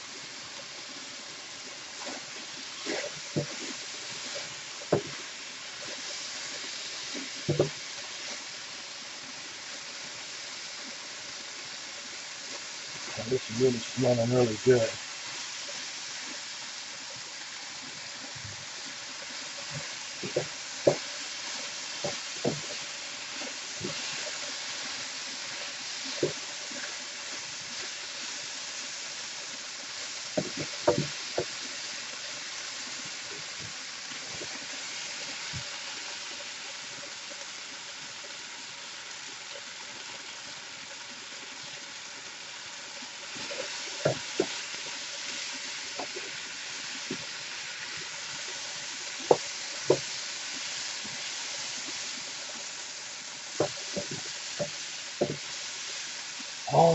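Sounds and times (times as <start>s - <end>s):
beef sizzling in a hot pan: 0.0s - 56.9s.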